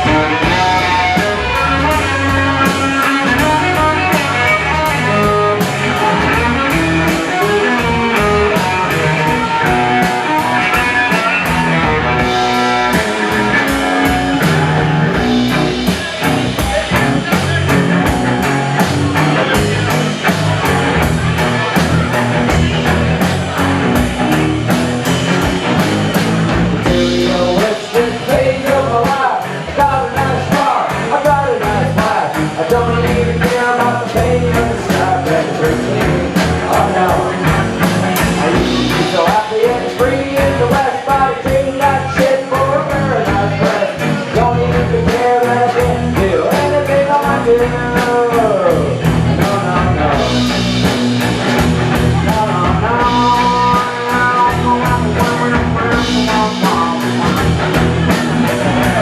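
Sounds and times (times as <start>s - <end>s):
loud instrumental rock music: 0.0s - 59.0s
steady drum beat: 0.0s - 59.0s.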